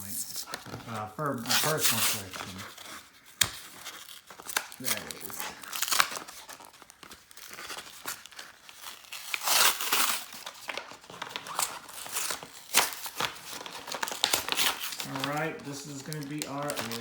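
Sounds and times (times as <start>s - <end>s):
card packaging crinkling: 0.0s - 17.0s.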